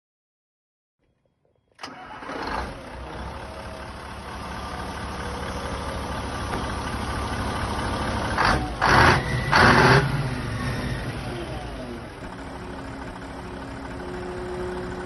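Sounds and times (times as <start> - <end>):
diesel truck engine idling: 1.8 - 15.0.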